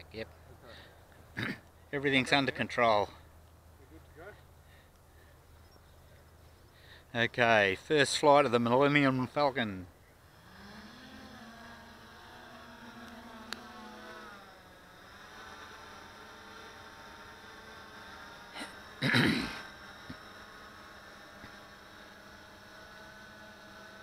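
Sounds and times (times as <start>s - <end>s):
electric motors and propellers whirring: 1.4s - 24.0s.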